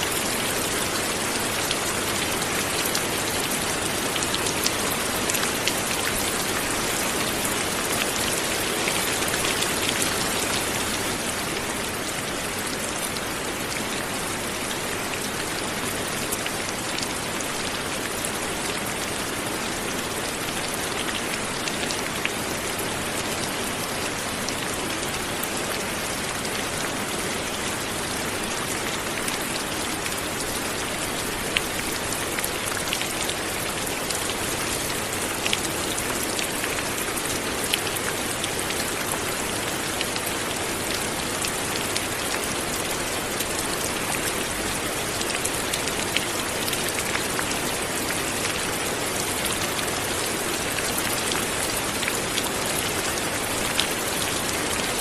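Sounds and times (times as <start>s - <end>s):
light rain patter: 0.0s - 55.0s.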